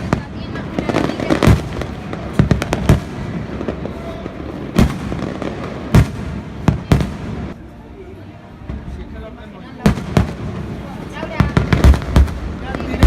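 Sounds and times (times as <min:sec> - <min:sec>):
fireworks bangs: 0:00.0 - 0:07.6, 0:09.8 - 0:13.0
background noise: 0:00.0 - 0:13.0.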